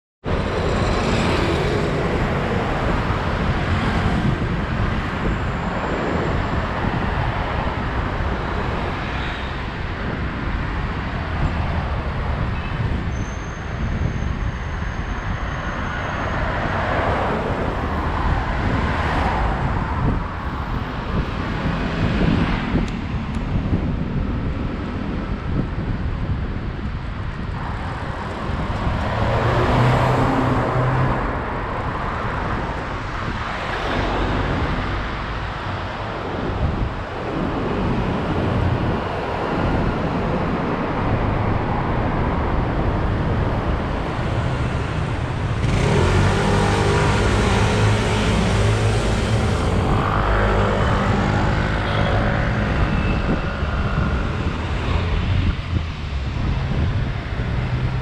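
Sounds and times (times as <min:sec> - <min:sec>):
wind buffeting microphone: 0:00.2 - 0:58.0
passing motor vehicles: 0:00.3 - 0:58.0.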